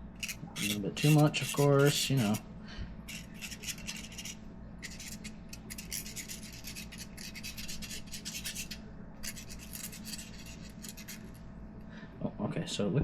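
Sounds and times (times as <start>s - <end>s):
steady low hum: 0.0s - 13.0s
scratchy rubbing strokes: 0.2s - 2.4s, 3.1s - 11.4s.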